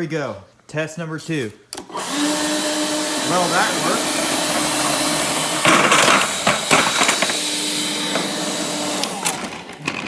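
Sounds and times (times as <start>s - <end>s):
leaf blower running: 1.8s - 10.0s.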